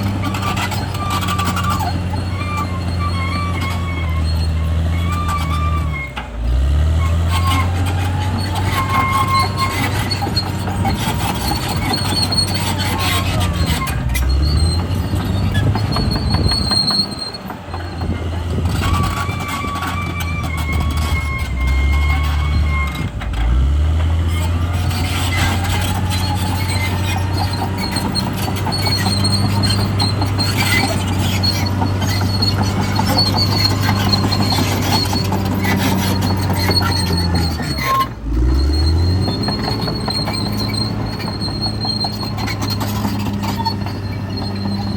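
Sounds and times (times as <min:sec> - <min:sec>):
bulldozer diesel engine running: 0:00.0 - 0:44.9
steel tracks squealing and clanking: 0:00.0 - 0:44.9.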